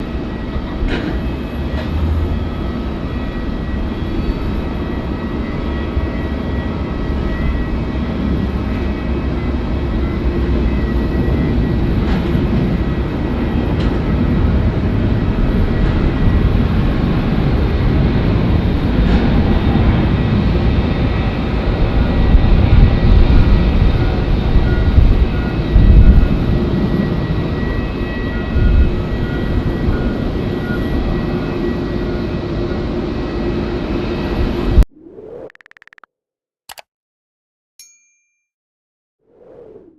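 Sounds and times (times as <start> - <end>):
jet engines rumbling: 0.0 - 35.5.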